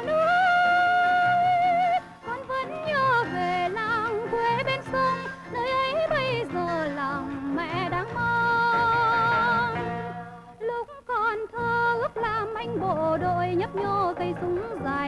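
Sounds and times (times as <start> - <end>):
instrumental accompaniment: 0.0 - 15.0
person singing with vibrato: 0.0 - 15.0.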